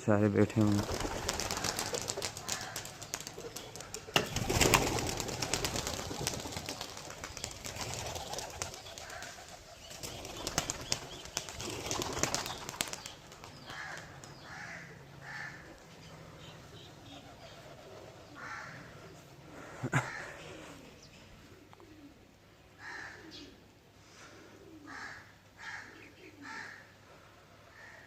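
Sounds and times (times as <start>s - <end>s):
pigeons cooing: 0.6s - 28.0s.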